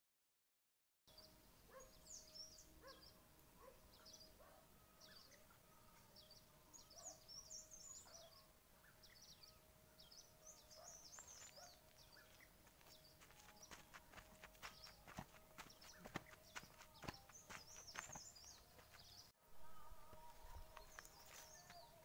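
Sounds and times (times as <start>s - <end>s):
small birds chirping: 1.1s - 19.3s, 20.1s - 22.0s.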